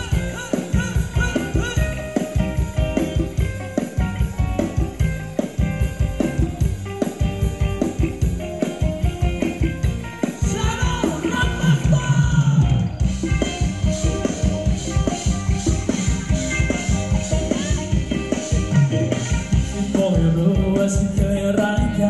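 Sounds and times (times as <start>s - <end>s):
live band dance music: 0.0s - 22.0s.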